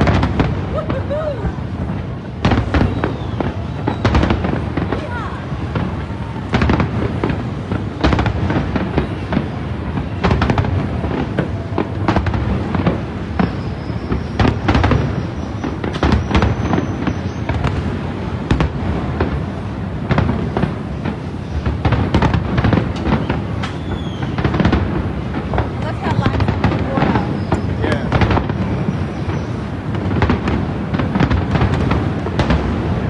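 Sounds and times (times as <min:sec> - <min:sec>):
firework shells bursting: 0:00.0 - 0:33.0.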